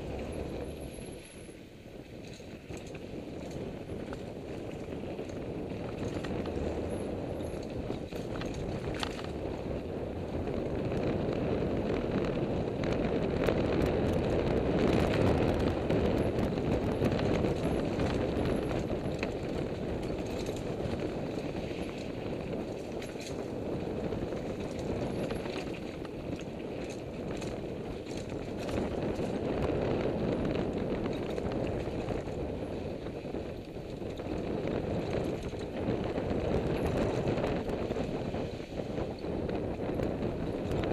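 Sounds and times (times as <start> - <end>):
bike chain and frame rattling: 0.0 - 11.0, 13.5 - 40.9
tyres rolling on dirt: 0.0 - 40.9
wind rushing over microphone: 0.0 - 40.9.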